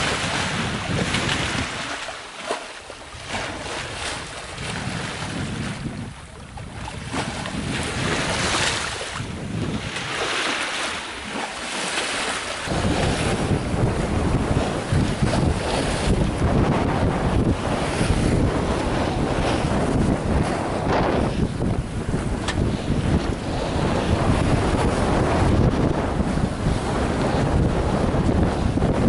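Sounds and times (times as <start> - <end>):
sea water rushing past boat: 0.0 - 29.0
wind buffeting microphone: 0.0 - 29.0.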